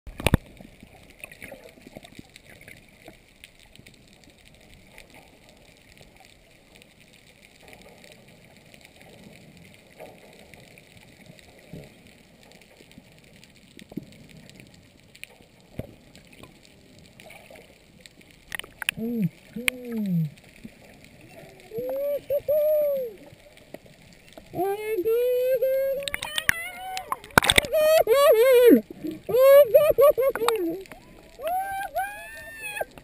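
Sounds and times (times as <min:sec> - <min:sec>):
underwater gurgling: 0:00.1 - 0:33.0.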